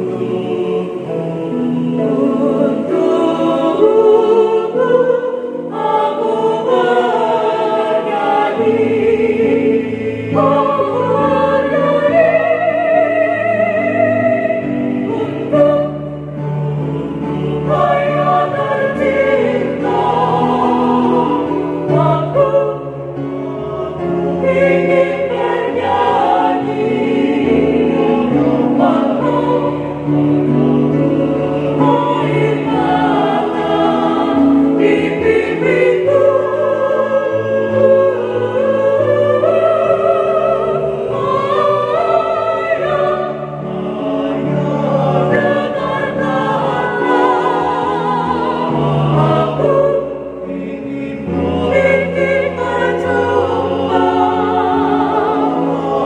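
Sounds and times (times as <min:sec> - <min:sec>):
mixed choir singing a hymn: 0:00.0 - 0:56.0.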